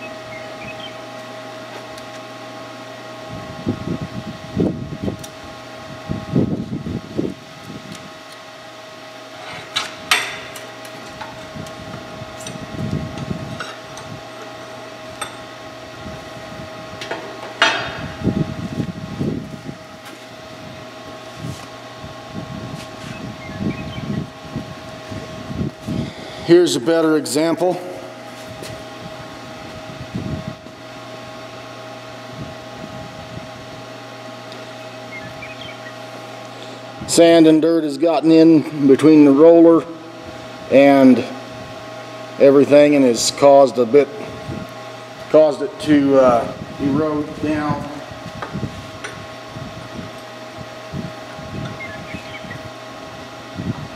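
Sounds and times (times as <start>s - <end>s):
fan noise: 0.0s - 53.9s
steady hum: 0.0s - 53.9s.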